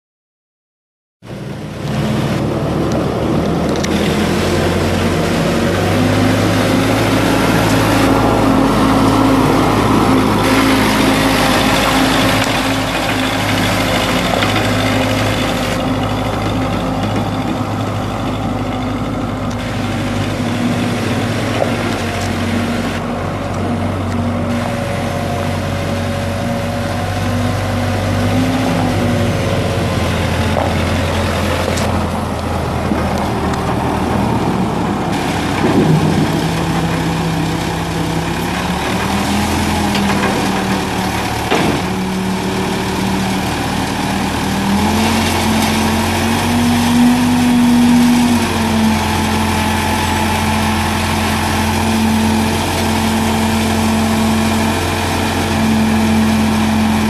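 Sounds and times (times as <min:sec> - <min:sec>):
diesel tractor engine running: 0:01.2 - 0:57.0.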